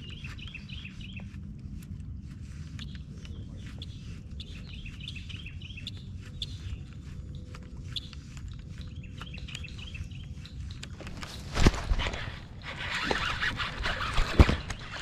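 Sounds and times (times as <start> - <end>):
steady low rumble: 0.0 - 12.8
birds chirping: 0.0 - 15.0.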